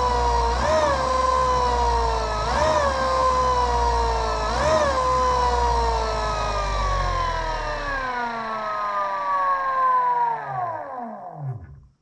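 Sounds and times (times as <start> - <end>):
electric motor whine: 0.0 - 11.9.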